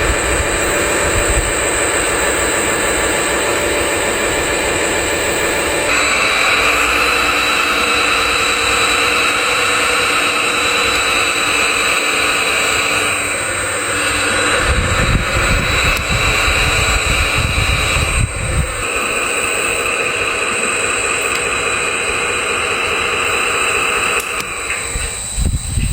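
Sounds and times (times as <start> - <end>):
large engine running with whine: 0.0 - 25.9.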